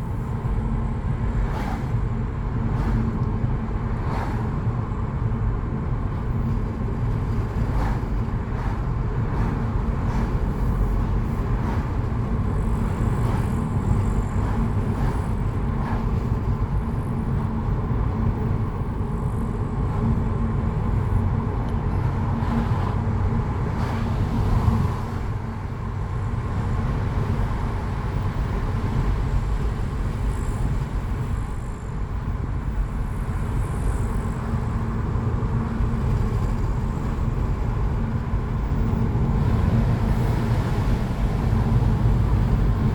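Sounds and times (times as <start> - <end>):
car road and engine noise: 0.0 - 42.9.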